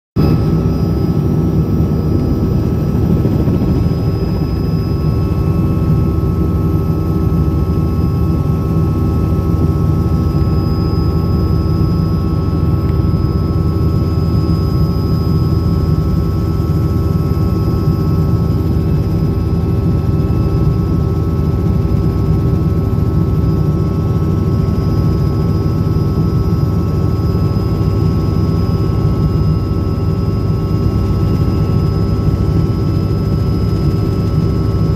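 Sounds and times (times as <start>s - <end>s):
helicopter rotor rumble: 0.2s - 34.9s
high turbine whine: 0.2s - 34.9s.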